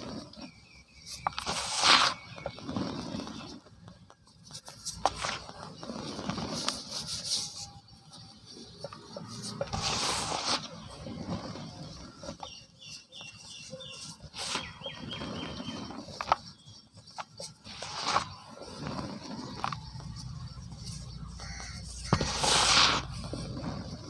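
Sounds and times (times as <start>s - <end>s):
cement powder rustling in hands: 0.0s - 24.0s.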